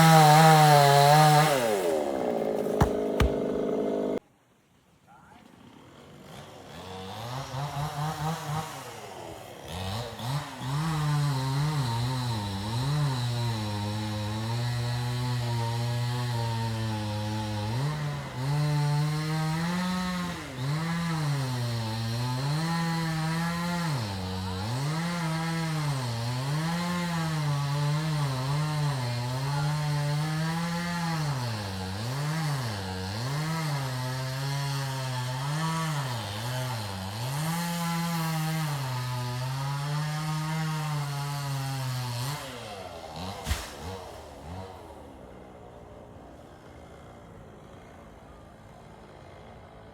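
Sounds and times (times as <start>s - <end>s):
chainsaw cutting wood: 0.0s - 4.2s, 6.2s - 47.8s.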